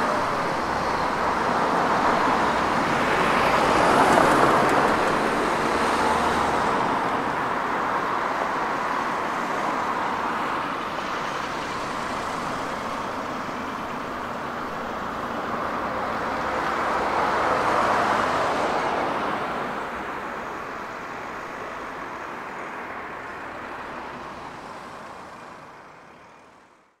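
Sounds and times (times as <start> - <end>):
cars passing on street: 0.0 - 27.0.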